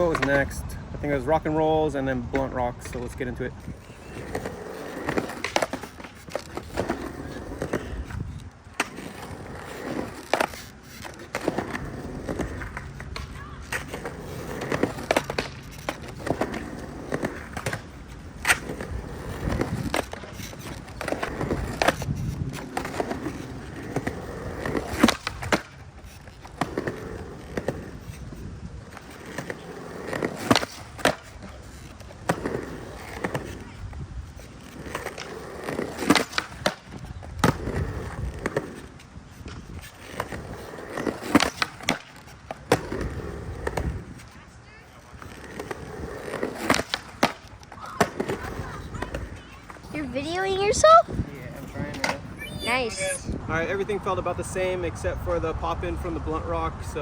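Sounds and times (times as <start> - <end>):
skateboard clacking on coping: 0.0 - 0.6, 2.1 - 52.4
skateboard wheels rolling on concrete: 0.0 - 57.0.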